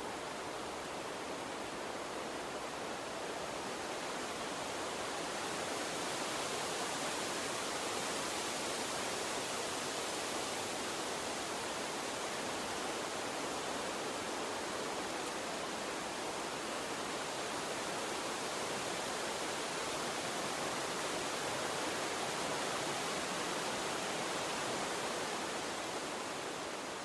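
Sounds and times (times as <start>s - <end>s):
stream rushing water: 0.0s - 27.0s.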